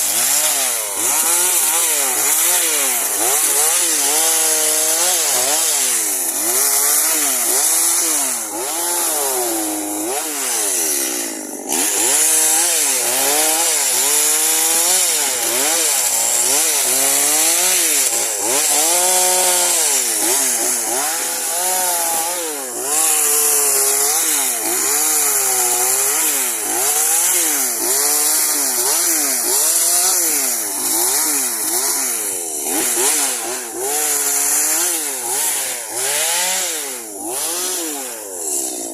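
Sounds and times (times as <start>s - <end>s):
chainsaw cutting branches: 0.0s - 38.9s.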